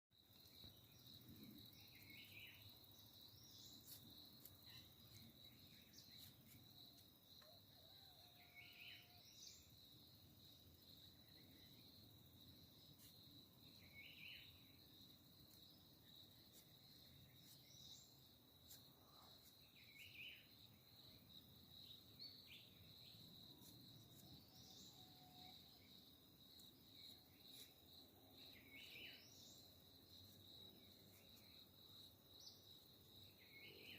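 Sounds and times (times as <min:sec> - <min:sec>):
crickets trilling: 0:00.2 - 0:33.9
short insect call: 0:00.2 - 0:33.9.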